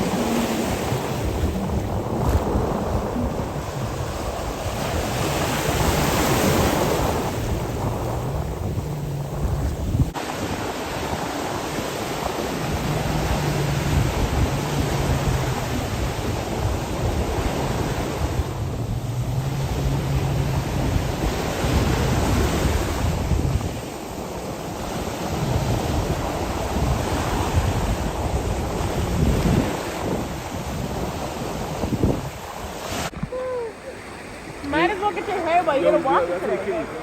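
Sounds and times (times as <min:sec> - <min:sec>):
jet ski engine humming: 0:00.0 - 0:37.0
water rushing: 0:00.0 - 0:37.0
wind buffeting microphone: 0:00.0 - 0:37.0.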